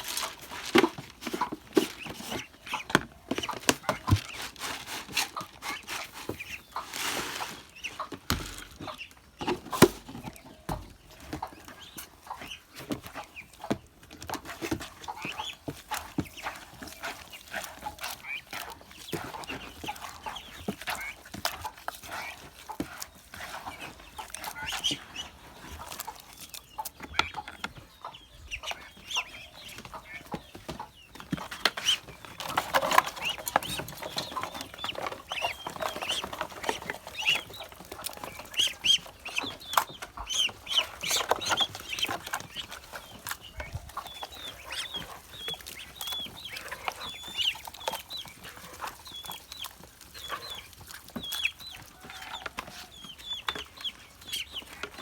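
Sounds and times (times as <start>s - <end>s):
poultry peeping and clucking: 0.0s - 55.0s.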